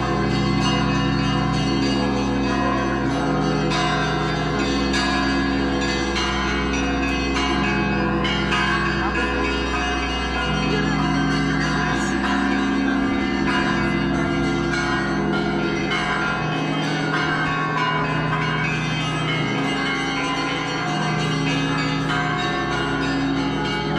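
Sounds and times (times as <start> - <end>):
church bells ringing: 0.0 - 23.9.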